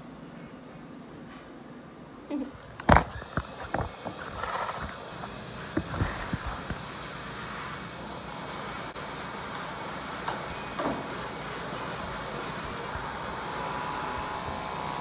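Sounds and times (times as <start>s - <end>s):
electric clippers hissing: 2.9s - 15.0s.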